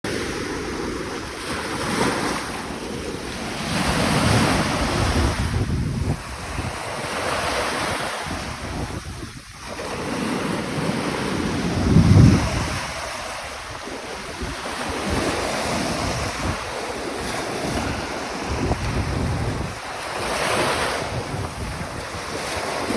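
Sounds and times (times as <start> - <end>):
small waves breaking on shore: 0.1 - 22.9
wind buffeting microphone: 0.1 - 22.9.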